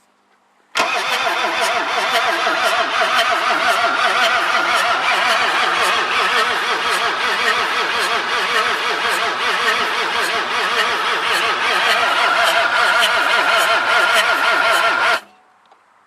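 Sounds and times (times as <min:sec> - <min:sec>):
diesel engine running: 0:00.8 - 0:15.3.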